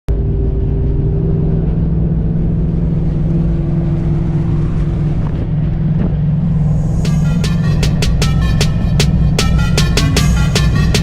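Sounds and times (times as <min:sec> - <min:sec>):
car engine running: 0:00.1 - 0:11.0.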